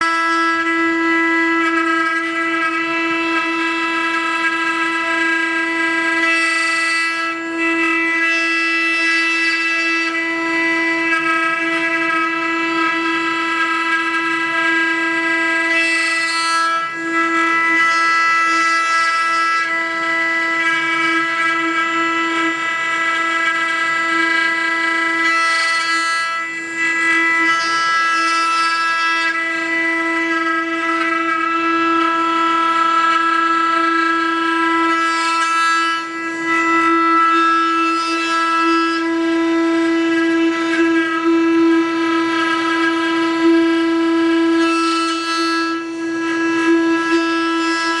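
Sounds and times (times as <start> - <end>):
router spindles whine: 0.0 - 48.0.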